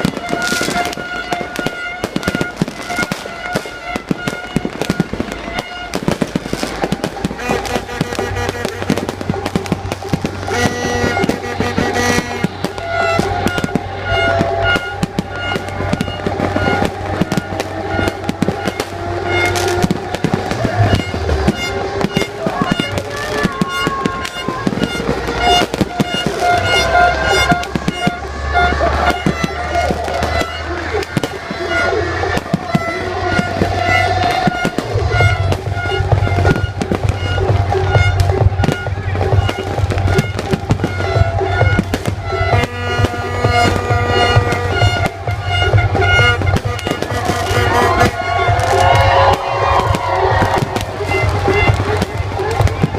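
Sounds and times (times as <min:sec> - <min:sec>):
fireworks bangs and crackles: 0:00.0 - 0:52.9
music: 0:00.1 - 0:52.9
low rumble: 0:00.8 - 0:52.9.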